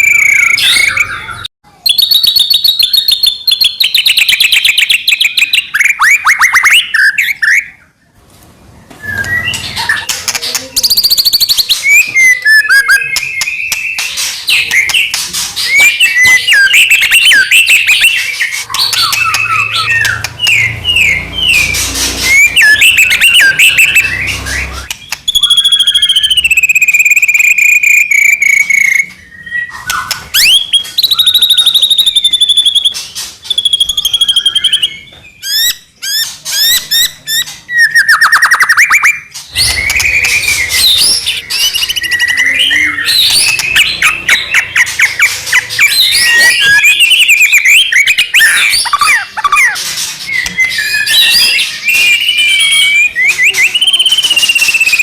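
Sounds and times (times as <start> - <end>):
songbird whistles and trills: 0.0 - 8.0, 8.9 - 55.0.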